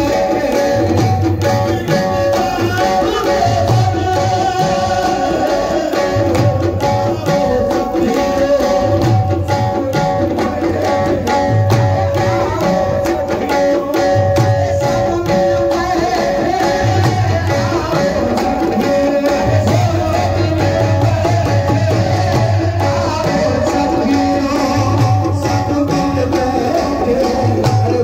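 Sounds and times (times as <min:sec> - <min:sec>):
tabla drum pattern: 0:00.0 - 0:28.0.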